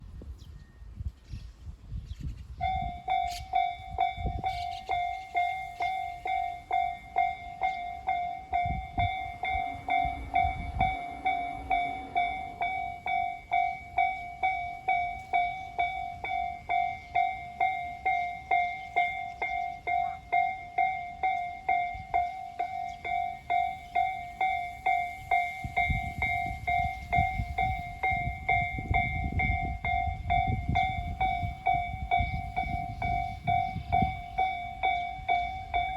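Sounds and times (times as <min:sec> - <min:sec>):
low rumble of passing train: 0:00.0 - 0:35.9
level crossing warning bell ringing: 0:02.6 - 0:35.9.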